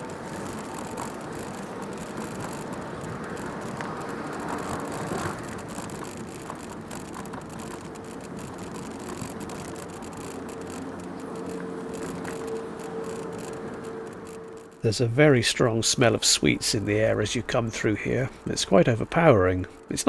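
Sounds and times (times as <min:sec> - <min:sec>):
bicycle tyre rumble: 0:00.0 - 0:20.0
light rattles and clicks: 0:00.0 - 0:20.0.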